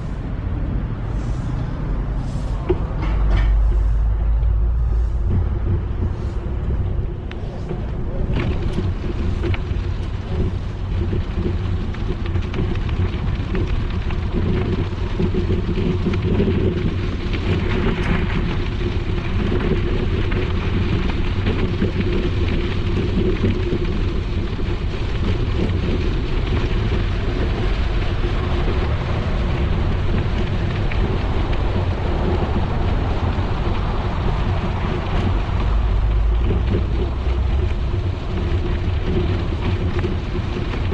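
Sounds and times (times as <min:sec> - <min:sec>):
bicycle tyres on gravel: 0:00.0 - 0:40.9
wind on microphone: 0:00.0 - 0:40.9.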